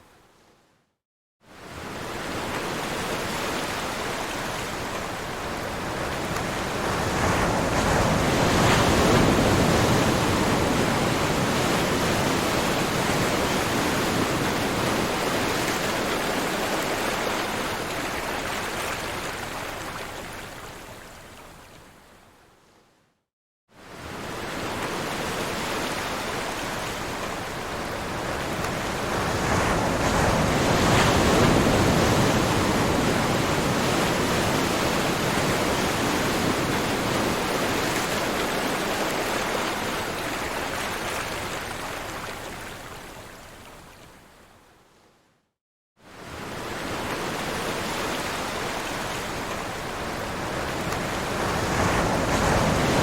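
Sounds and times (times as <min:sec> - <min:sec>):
ocean surf washing: 0:01.6 - 0:20.4, 0:23.9 - 0:43.3, 0:46.1 - 0:53.0.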